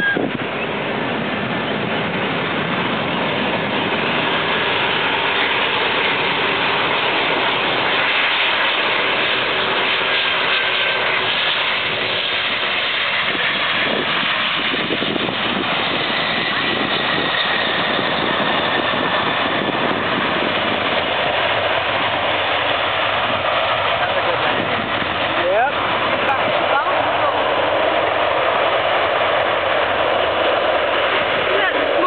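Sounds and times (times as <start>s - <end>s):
jet airliner landing: 0.0s - 32.0s.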